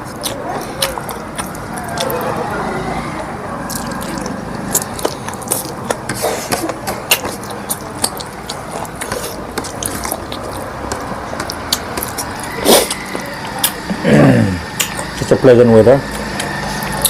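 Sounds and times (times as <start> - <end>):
chewing food: 0.0 - 14.0, 14.6 - 15.4, 16.0 - 17.0
steady low murmur: 0.0 - 17.0.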